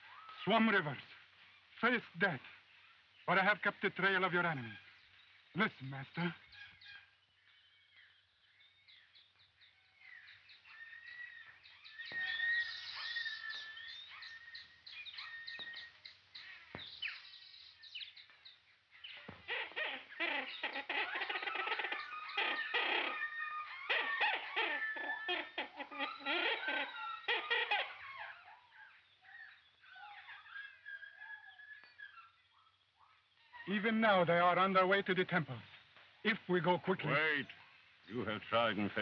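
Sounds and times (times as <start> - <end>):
jungle bird calls and chirps: 0.0 - 39.0.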